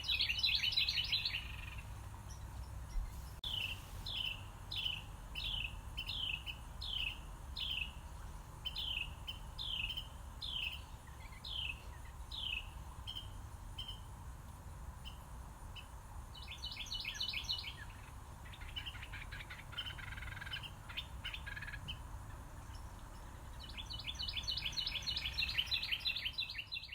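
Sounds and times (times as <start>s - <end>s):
birds chirping: 0.0s - 14.1s, 15.0s - 26.9s
low outdoor rumble: 0.0s - 26.9s.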